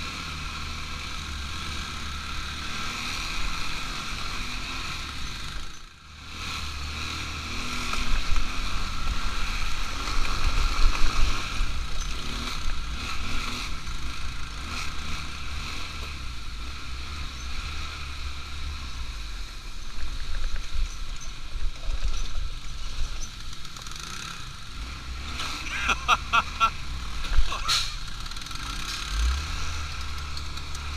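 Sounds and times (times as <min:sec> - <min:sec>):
atv engine running: 0:00.0 - 0:30.9.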